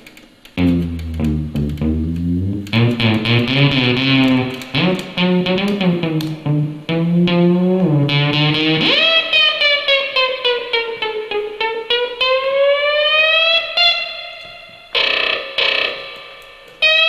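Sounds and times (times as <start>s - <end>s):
amplified instrument music: 0.6s - 17.0s
held note bending in pitch: 0.6s - 17.0s.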